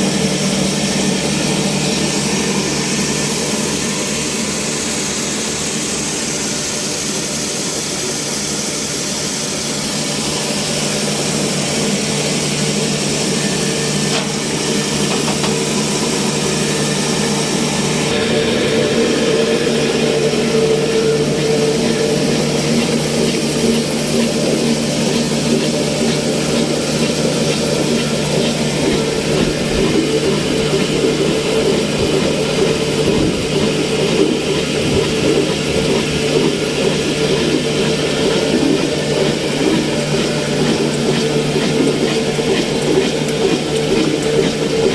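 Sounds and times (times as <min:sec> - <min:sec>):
stationary diesel engine running: 0:00.0 - 0:44.9.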